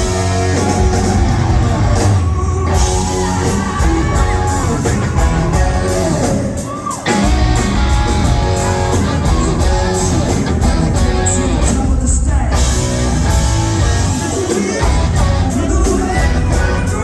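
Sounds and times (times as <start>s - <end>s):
live rock band: 0.0s - 17.0s
person singing: 0.0s - 17.0s.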